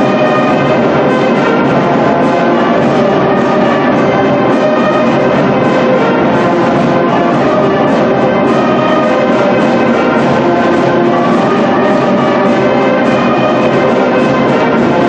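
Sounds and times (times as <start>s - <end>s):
music with held notes: 0.0s - 15.0s.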